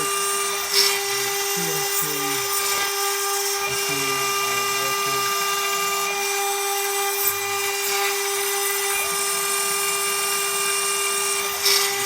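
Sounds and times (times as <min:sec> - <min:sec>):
router spindle high whine: 0:00.0 - 0:12.0.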